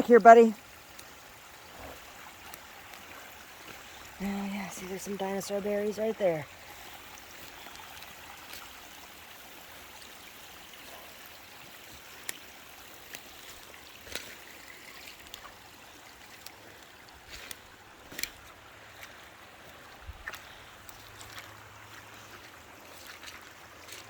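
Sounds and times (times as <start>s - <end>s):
water trickling in small stream: 0.0s - 24.0s.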